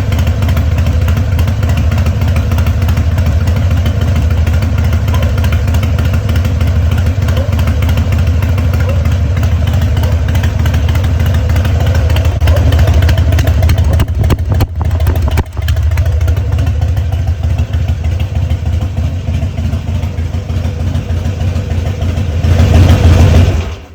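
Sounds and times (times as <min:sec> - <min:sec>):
motorcycle exhaust idling: 0:00.0 - 0:23.9.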